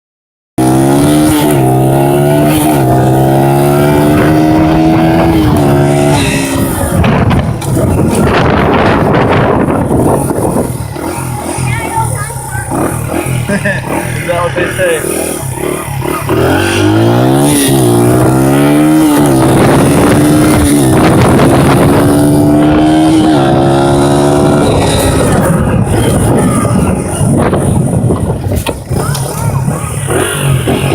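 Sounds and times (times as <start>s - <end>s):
wind noise on microphone: 0.6s - 13.6s, 16.2s - 30.9s
dirt bike engine running: 0.6s - 30.9s.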